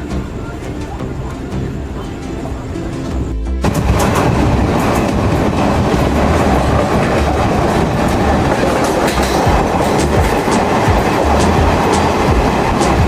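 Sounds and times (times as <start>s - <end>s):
train coaches rumbling: 0.0s - 13.0s
wheels clacking over rail joints: 0.0s - 13.0s.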